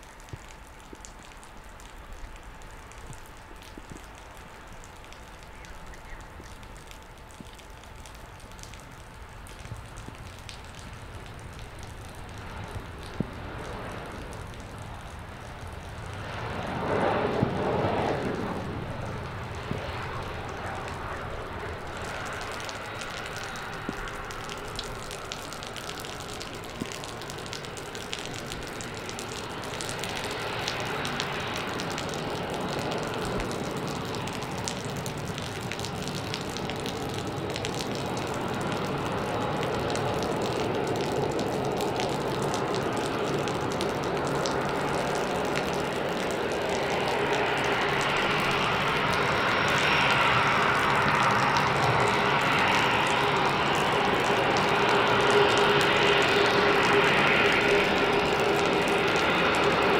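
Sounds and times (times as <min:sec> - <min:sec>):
jet engines rumbling with whine: 0:00.0 - 0:59.9.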